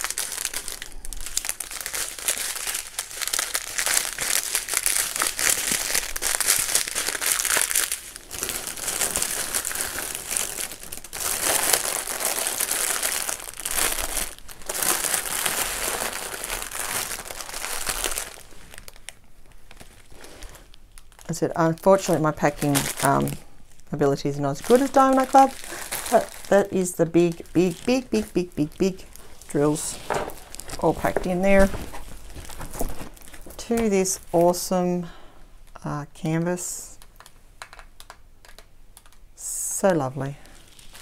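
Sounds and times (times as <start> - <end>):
plastic bags crinkling: 0.0 - 35.2, 37.0 - 39.3, 40.4 - 41.0.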